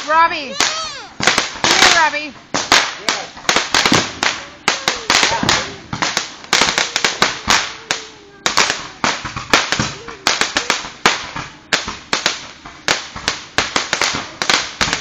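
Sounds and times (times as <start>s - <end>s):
firecrackers cracking: 0.0s - 15.0s.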